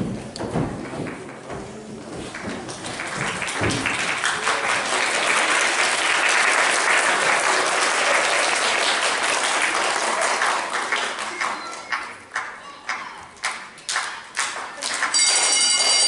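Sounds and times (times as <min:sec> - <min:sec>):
audience applauding: 0:02.3 - 0:16.0.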